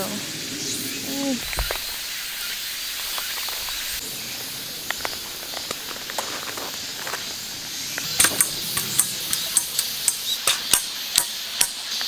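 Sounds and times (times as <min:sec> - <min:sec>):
high hiss of outdoor ambience: 0:00.0 - 0:12.0.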